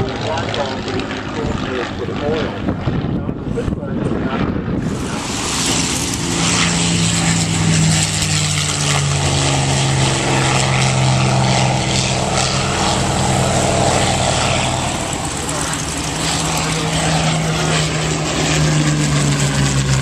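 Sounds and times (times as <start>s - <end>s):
propeller plane engine flying past: 0.0s - 20.0s.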